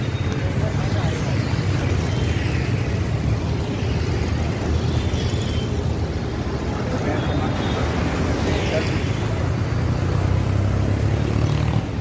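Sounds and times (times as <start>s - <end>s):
scooters and rickshaws passing: 0.0s - 12.0s
street traffic rumble: 0.0s - 12.0s.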